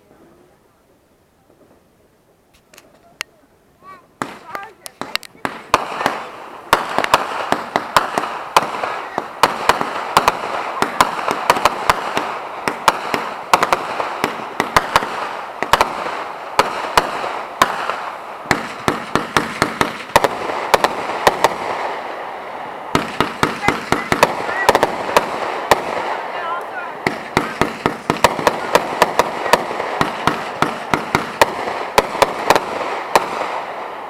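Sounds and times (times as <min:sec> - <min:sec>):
fireworks crackle and hiss: 0:01.4 - 0:34.0
fireworks bangs: 0:03.8 - 0:34.0.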